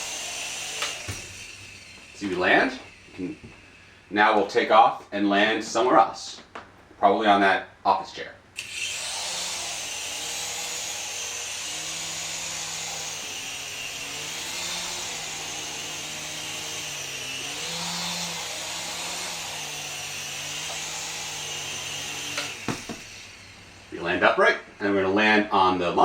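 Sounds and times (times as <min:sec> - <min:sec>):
toy helicopter motors whining: 0:00.0 - 0:04.8, 0:08.6 - 0:25.3.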